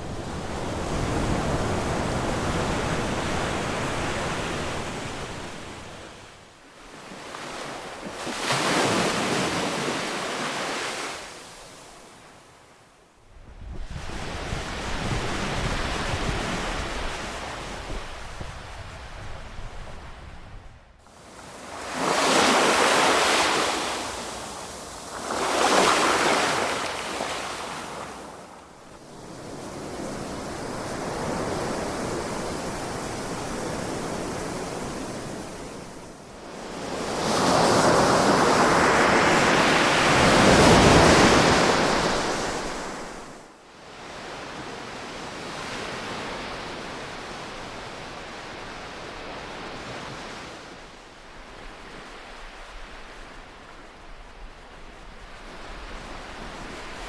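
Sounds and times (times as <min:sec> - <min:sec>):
ocean waves washing on shore: 0:00.0 - 0:12.6, 0:13.8 - 0:57.0.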